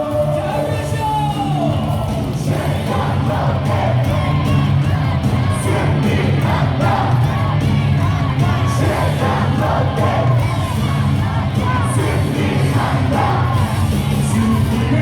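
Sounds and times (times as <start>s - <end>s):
crowd singing and chanting: 0.0s - 15.0s
loud music over speakers: 0.0s - 15.0s.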